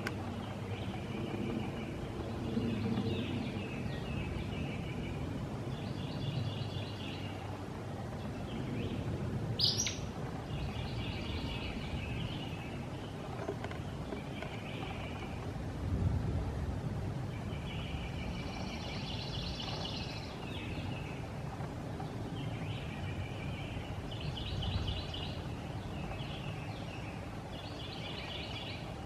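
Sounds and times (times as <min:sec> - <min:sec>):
soft bird song: 0:00.0 - 0:15.7, 0:17.1 - 0:29.0.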